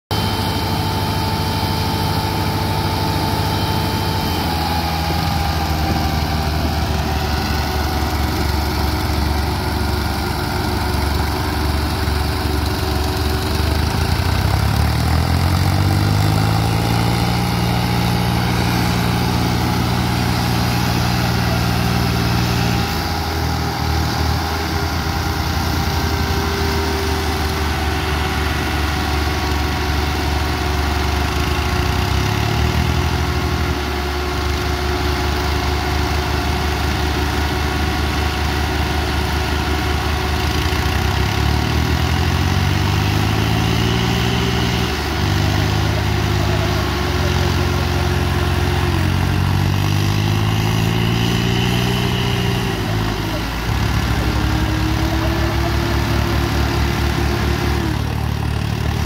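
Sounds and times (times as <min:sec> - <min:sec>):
diesel tractor engines under load: 0:00.0 - 0:59.0.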